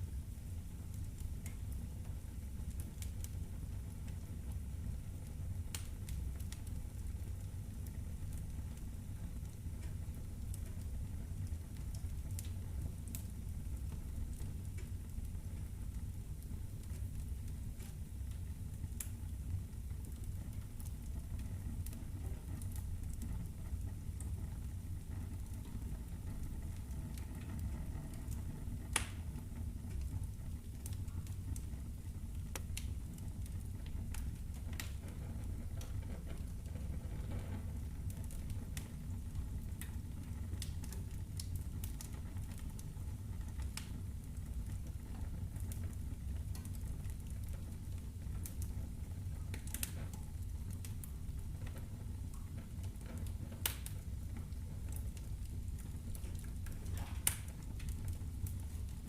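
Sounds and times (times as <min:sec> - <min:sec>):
fire crackling in a fireplace: 0:00.0 - 0:59.0.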